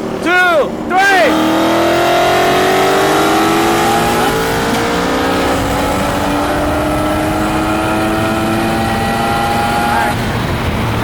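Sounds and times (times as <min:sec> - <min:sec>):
rotary engine at full throttle: 0:00.0 - 0:11.0.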